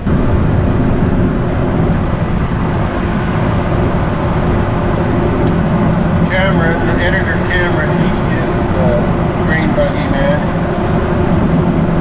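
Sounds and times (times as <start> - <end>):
farm machinery engine drone: 0.0 - 12.0.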